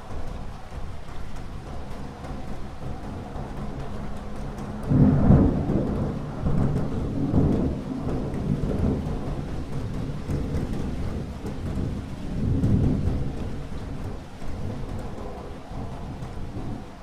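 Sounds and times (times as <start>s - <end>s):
rolling thunder: 0.0s - 17.0s
steady rain: 0.0s - 17.0s.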